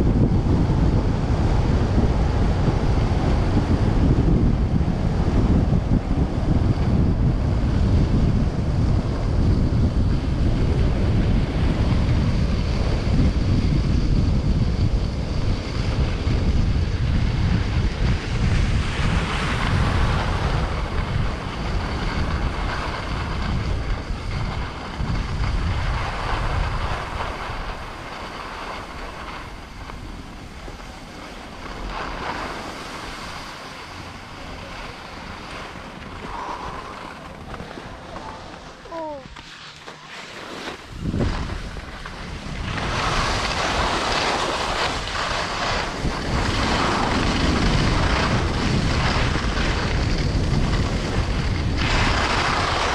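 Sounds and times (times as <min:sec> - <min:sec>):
wind buffeting microphone: 0:00.0 - 0:39.5, 0:40.7 - 0:52.9.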